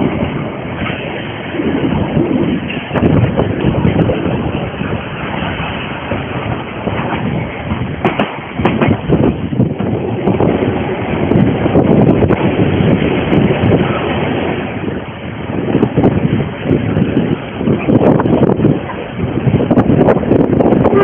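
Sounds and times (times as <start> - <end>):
steam train rumble and rattle: 0.0 - 21.0.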